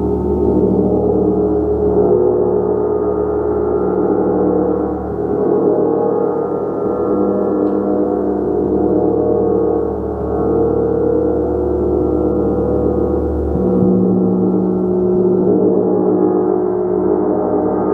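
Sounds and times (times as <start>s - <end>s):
gong droning: 0.0s - 17.9s.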